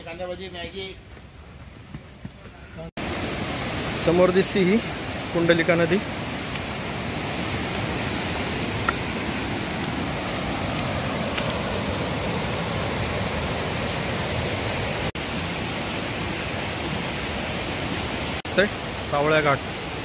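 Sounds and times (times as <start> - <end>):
river rushing over rocky rapids: 3.0 - 20.0.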